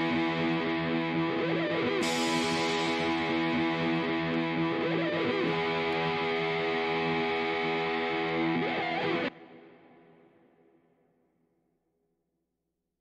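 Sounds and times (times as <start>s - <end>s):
distorted guitar chords: 0.0s - 10.7s.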